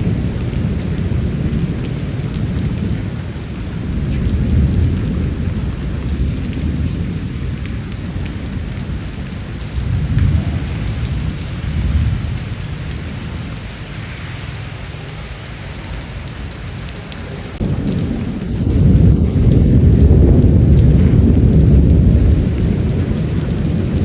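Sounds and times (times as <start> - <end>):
rolling thunder: 0.0 - 14.6, 15.6 - 24.0
steady rain falling: 0.0 - 24.0.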